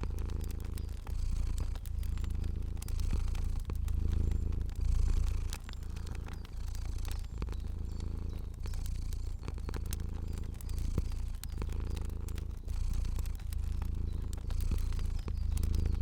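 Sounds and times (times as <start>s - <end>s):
cat purring: 0.0s - 16.0s
fire crackling and popping: 0.0s - 16.0s.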